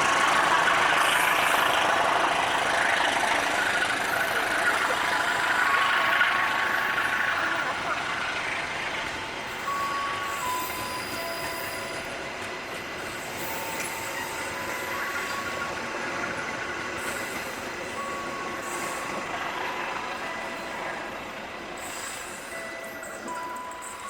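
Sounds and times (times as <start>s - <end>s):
high wheel squealing: 0.0s - 24.0s
train wheels rumbling on rails: 0.0s - 24.0s.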